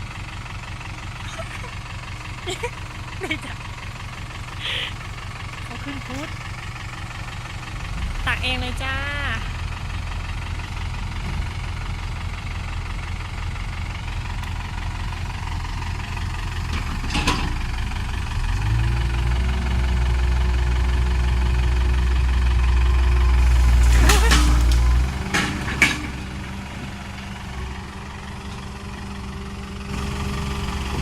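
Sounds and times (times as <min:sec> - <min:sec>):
diesel engine idling and revving: 0:00.0 - 0:31.0.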